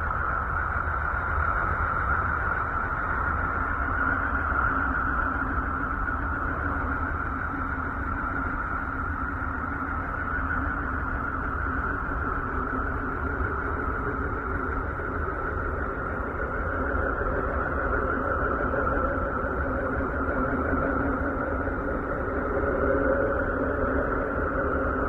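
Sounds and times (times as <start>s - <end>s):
noisy drone: 0.0s - 25.0s.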